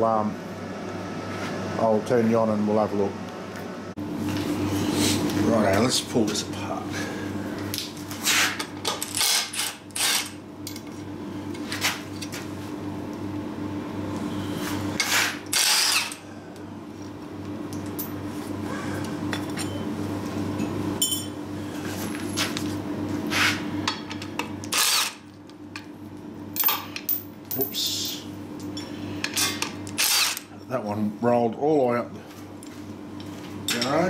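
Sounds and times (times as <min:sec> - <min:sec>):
workshop machine hum: 0:00.0 - 0:34.0.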